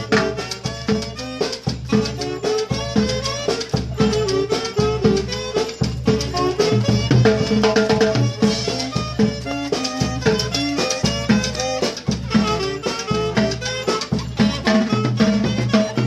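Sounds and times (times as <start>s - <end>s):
latin dance music with brass: 0.0s - 16.0s.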